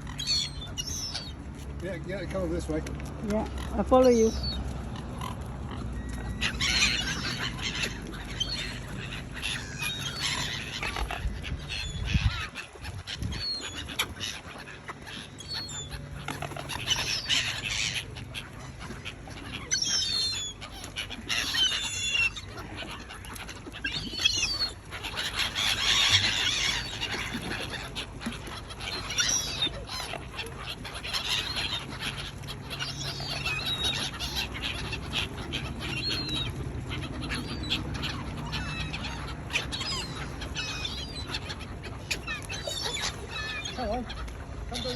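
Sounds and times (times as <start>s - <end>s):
waterbirds calling: 0.0s - 44.9s.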